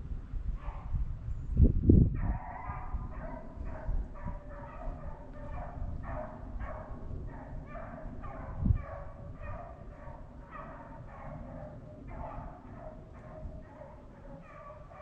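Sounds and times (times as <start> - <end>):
hounds baying and barking: 0.6 - 0.9, 2.2 - 15.0.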